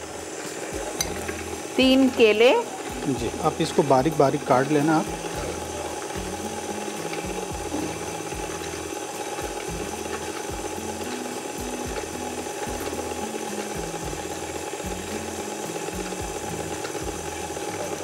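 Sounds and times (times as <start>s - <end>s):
background music with bass line: 0.0s - 2.2s, 2.9s - 18.0s.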